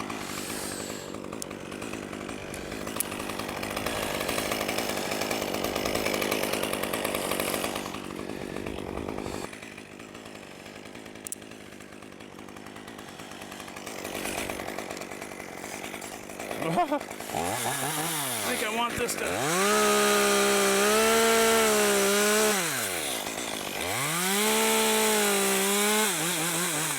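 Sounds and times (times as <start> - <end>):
chainsaw engine running: 0.0 - 26.9.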